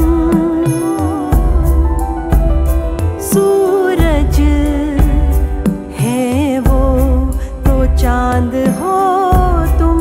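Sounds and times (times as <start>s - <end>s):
bass-heavy backing music with beat: 0.0s - 10.0s
person singing a melody: 0.0s - 10.0s.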